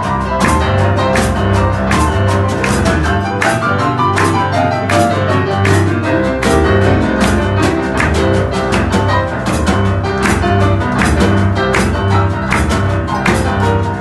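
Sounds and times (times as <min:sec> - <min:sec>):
boogie-woogie on pianos: 0:00.0 - 0:14.0
rolling bass line: 0:00.0 - 0:14.0
snare drum beat: 0:00.0 - 0:14.0.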